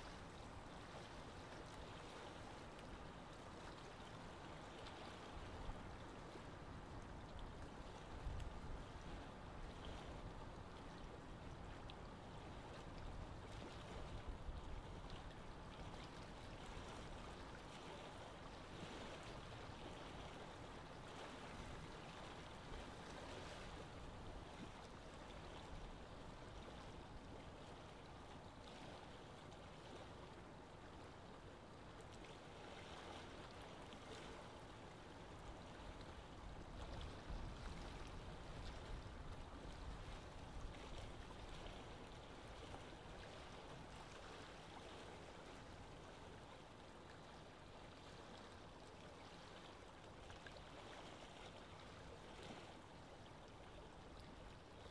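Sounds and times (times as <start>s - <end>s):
faint steady hiss: 0.0s - 54.9s.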